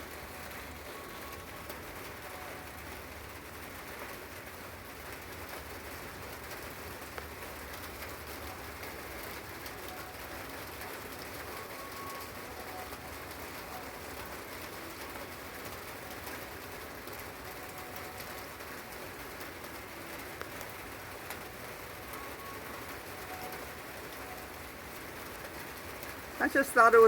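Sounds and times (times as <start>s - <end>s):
steady rain: 0.0s - 27.0s
sharp drip ticks: 0.3s - 27.0s.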